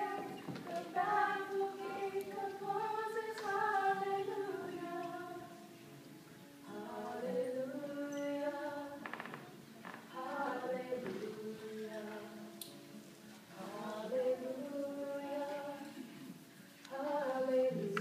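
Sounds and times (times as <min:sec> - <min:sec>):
young female voices singing: 0:00.0 - 0:05.9, 0:06.6 - 0:09.1, 0:10.1 - 0:12.8, 0:13.5 - 0:18.0
acoustic guitar: 0:00.0 - 0:18.0.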